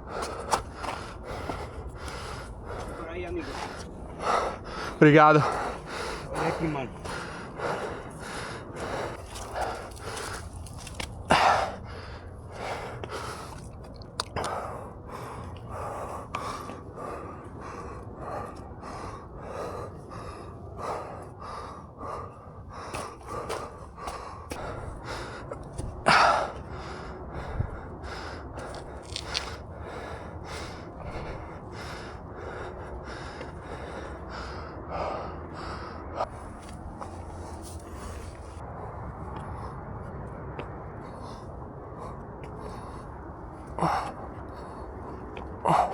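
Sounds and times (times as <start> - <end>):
person panting heavily: 0.0 - 45.9.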